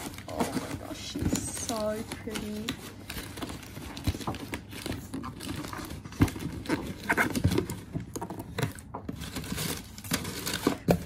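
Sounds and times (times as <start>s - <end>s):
cardboard and plastic wrap rustling: 0.0s - 11.0s.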